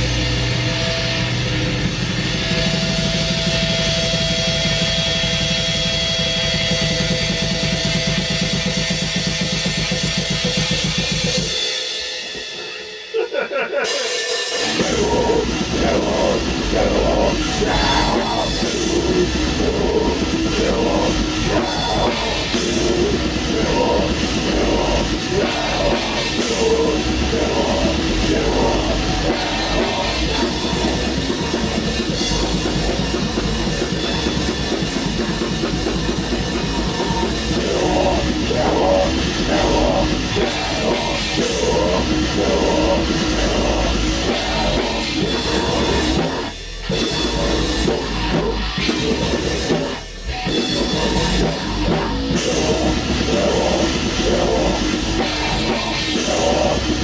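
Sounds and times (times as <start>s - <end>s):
distorted guitar: 0.0s - 11.5s, 12.4s - 57.0s
drum kit: 0.0s - 57.0s.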